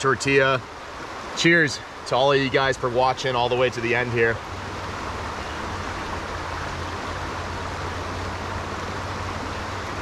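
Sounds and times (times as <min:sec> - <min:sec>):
creek flowing over stones: 0:00.0 - 0:10.0.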